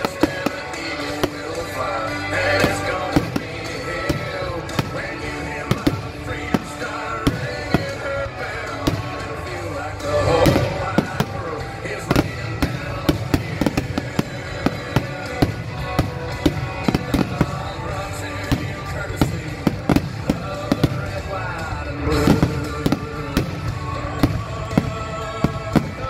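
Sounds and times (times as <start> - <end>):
fireworks bangs: 0.0 - 26.0
music playing: 0.0 - 26.0.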